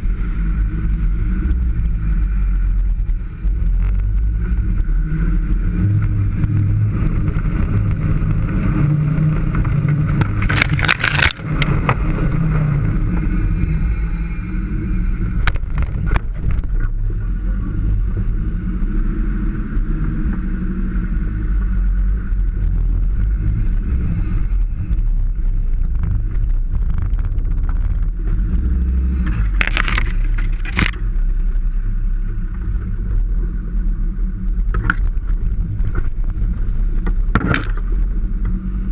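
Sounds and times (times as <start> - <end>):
vehicle engine at low revs: 0.0 - 38.9.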